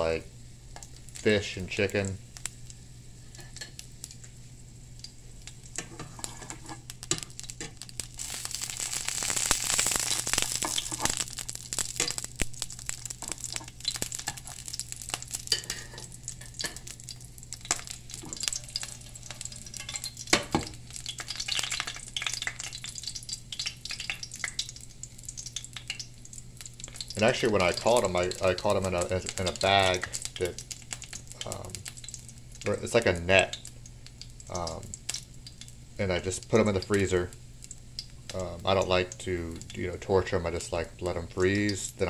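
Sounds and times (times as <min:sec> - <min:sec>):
oil sizzling in frying pan: 0:00.0 - 0:42.0.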